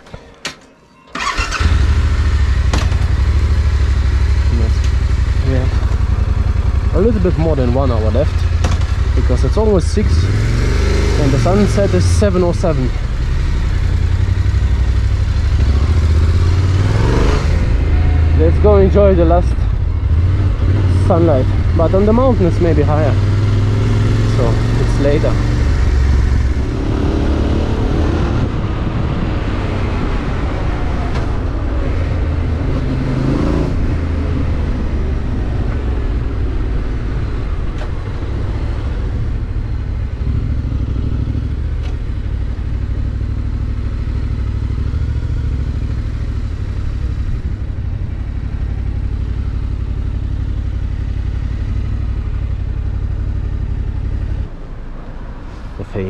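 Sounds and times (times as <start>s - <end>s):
motorcycle engine running: 1.2s - 29.2s, 31.6s - 54.9s.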